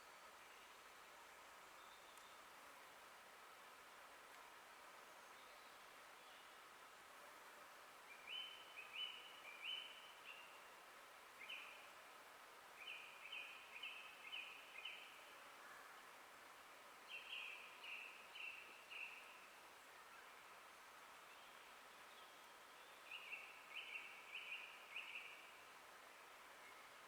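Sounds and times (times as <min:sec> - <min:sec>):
faint forest background hiss: 0:00.0 - 0:27.0.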